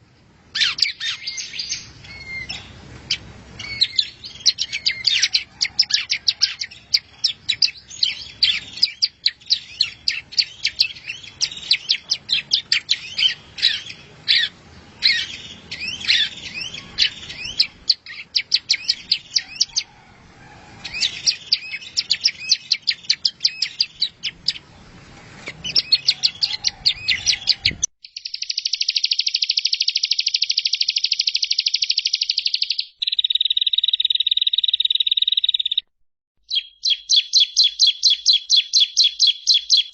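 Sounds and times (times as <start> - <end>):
bird chattering song: 0.5 - 20.0, 20.8 - 39.9.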